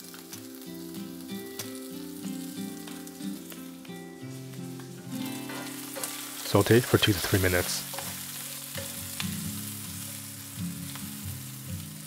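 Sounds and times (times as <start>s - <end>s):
background music: 0.0s - 12.0s
food sizzling in oil: 0.0s - 12.0s.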